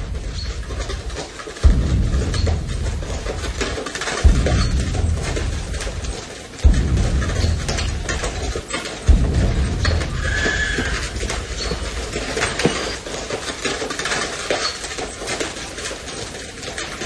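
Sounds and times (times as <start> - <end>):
cart knocking and rattling: 0.0 - 17.0
hoofbeats: 0.0 - 17.0.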